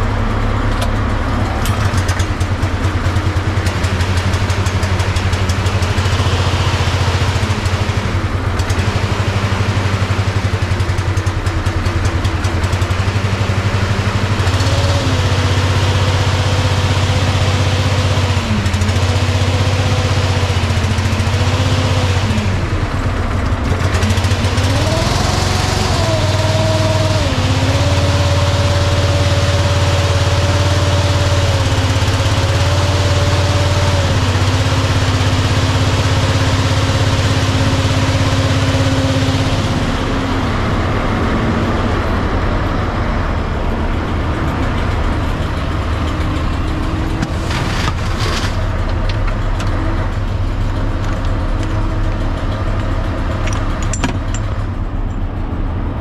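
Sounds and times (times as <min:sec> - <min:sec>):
fire truck engine running: 0:00.0 - 0:56.0.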